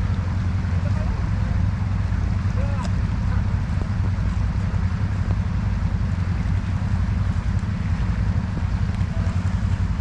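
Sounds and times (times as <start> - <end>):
off-road vehicle engine running: 0.0 - 10.0
wind buffeting microphone: 0.0 - 10.0.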